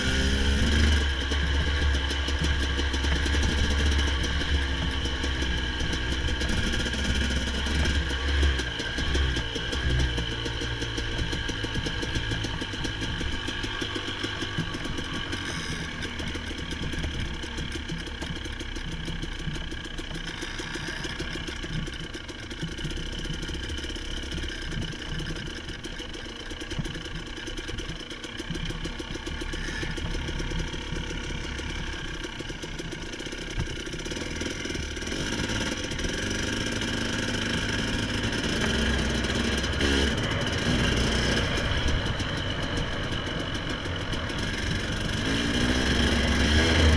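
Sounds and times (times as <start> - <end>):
vehicle engine running: 0.0 - 46.9.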